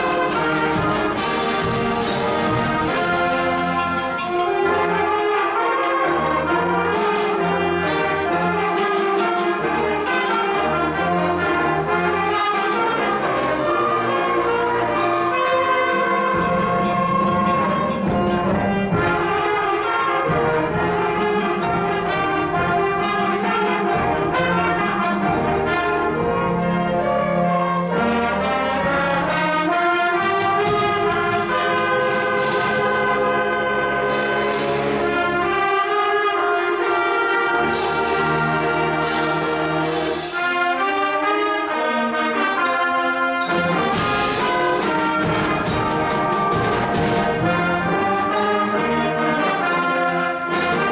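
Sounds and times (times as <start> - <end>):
concert band playing brass chords: 0.0 - 50.9.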